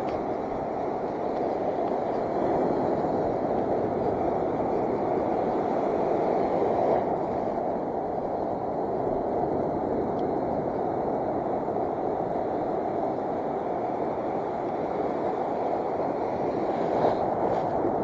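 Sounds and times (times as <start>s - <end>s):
heavy surf: 0.0s - 18.0s.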